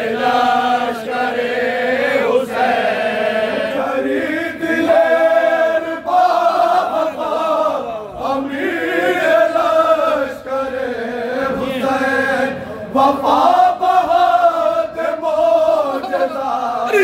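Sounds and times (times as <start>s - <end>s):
lead reciter voice: 0.0s - 17.0s
men chanting in unison: 0.0s - 17.0s.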